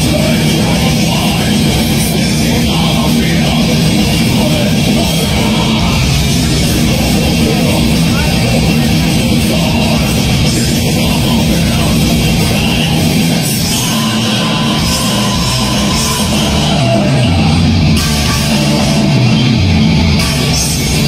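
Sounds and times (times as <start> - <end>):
heavy metal band playing: 0.0 - 21.0.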